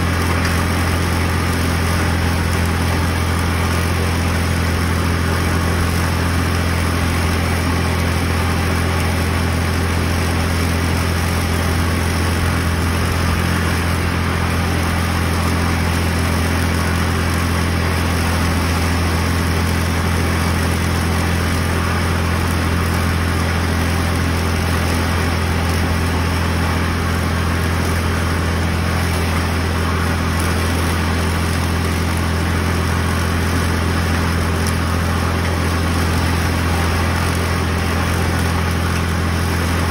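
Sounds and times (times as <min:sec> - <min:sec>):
belt-driven mower cutting plants: 0:00.0 - 0:39.9
tractor engine running: 0:00.0 - 0:39.9.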